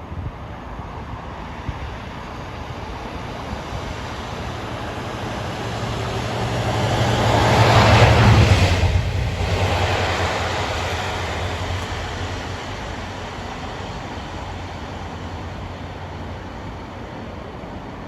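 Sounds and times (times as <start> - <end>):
rail noise: 0.0 - 18.0
train engine hum: 0.0 - 18.0.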